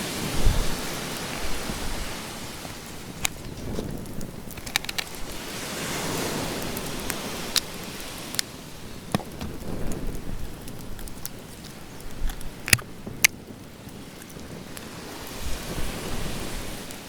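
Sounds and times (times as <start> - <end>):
sea waves washing on beach: 0.0 - 17.0.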